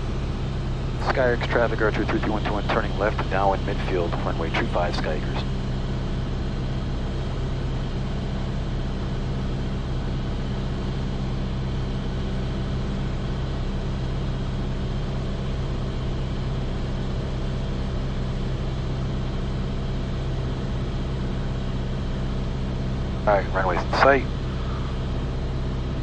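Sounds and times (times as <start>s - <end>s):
airplane engine and propeller drone: 0.0s - 26.0s.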